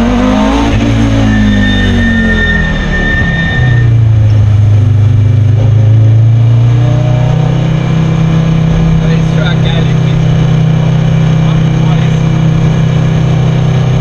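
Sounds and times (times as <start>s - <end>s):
rally car engine from inside cabin: 0.0s - 14.0s.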